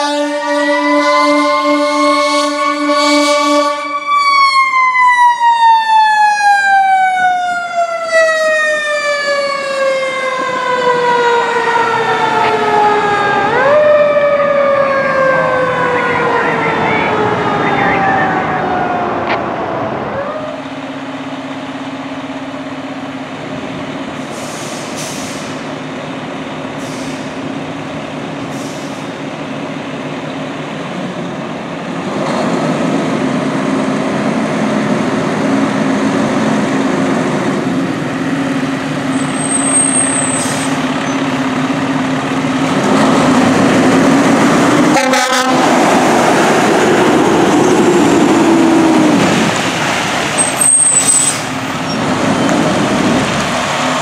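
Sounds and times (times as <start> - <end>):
fire truck siren tone: 0.0 - 31.8, 33.1 - 54.0
engine and road noise: 0.0 - 54.0.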